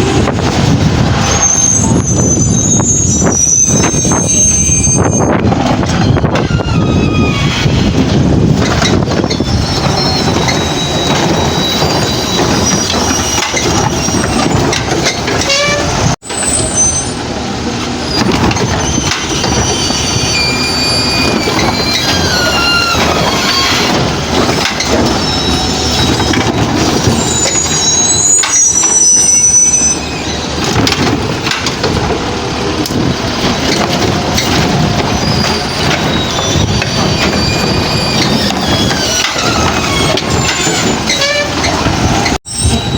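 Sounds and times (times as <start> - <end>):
garbage truck engine and hydraulics: 0.0 - 42.9
high squeals and whines: 1.1 - 17.3, 18.0 - 30.9, 33.2 - 42.9.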